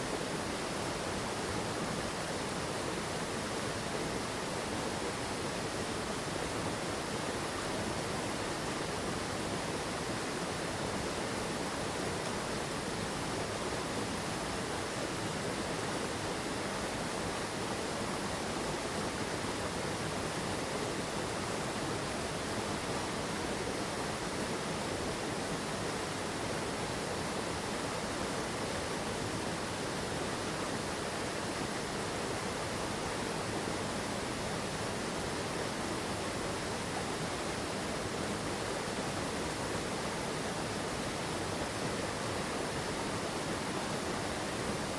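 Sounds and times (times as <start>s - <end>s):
mountain stream rushing: 0.0s - 44.9s.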